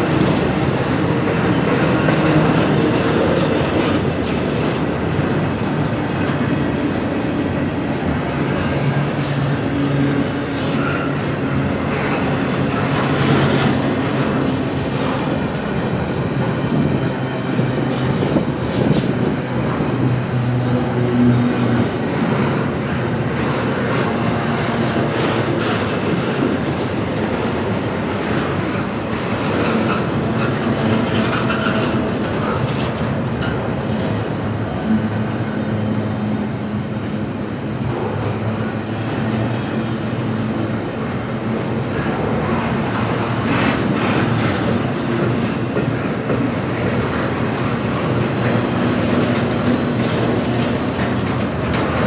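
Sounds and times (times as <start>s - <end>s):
wheels clicking over rail joints: 0.0s - 19.8s, 21.3s - 34.2s, 40.1s - 52.0s
freight train rolling by: 0.0s - 52.0s.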